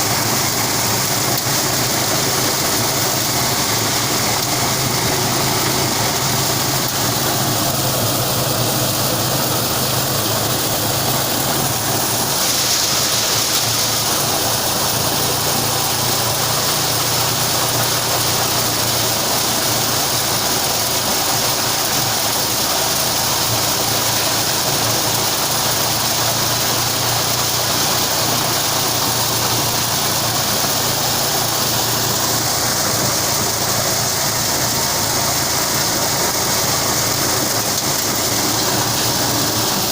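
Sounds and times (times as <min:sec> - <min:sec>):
corn machine running: 0:00.0 - 0:39.9.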